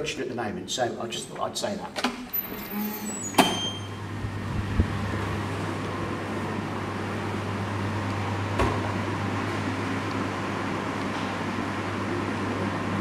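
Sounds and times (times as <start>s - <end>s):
air conditioning hum: 0.0s - 13.0s.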